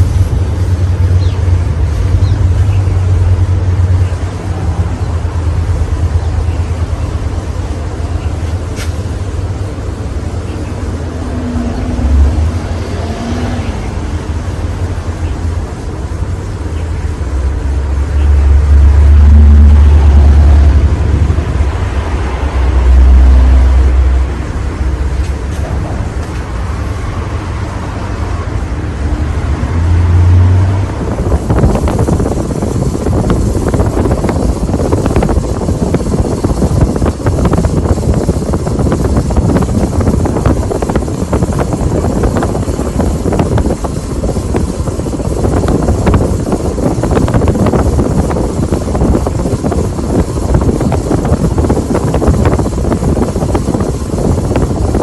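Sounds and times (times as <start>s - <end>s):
wind buffeting microphone: 0.0s - 28.6s, 29.6s - 55.0s
ceiling fan rushing hiss: 0.0s - 55.0s.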